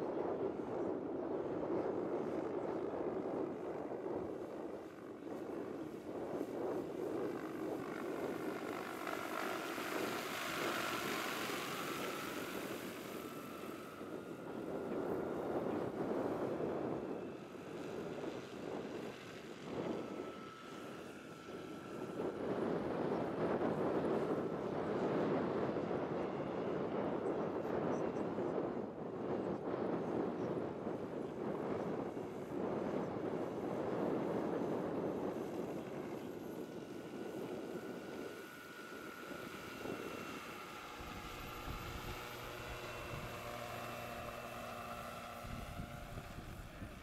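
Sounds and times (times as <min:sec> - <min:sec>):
faint steady whine: 0:00.0 - 0:47.0
model helicopter rotor: 0:00.0 - 0:47.0.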